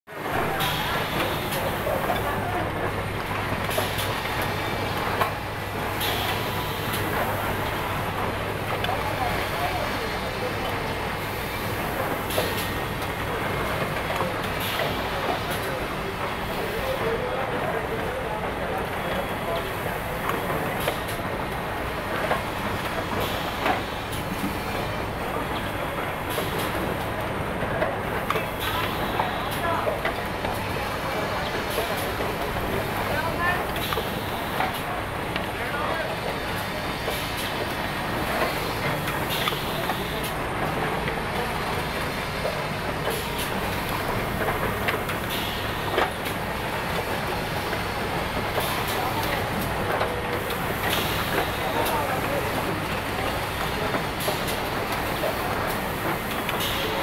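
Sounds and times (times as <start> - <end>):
factory machine hum: 0.1 - 57.0.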